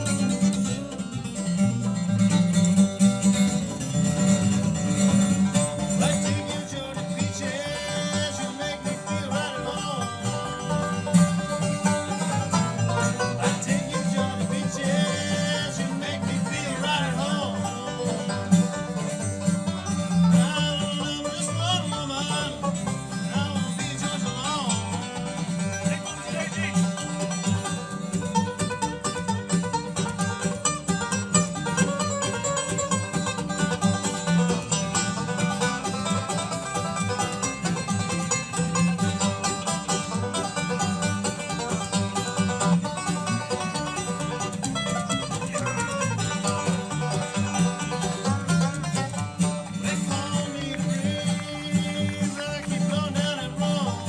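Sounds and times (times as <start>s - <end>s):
bluegrass band playing: 0.0s - 54.0s.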